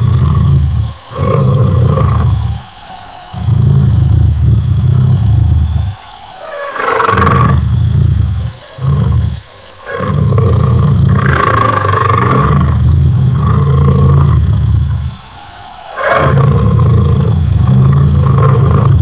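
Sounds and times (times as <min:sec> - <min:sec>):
lion roaring: 0:00.0 - 0:19.0.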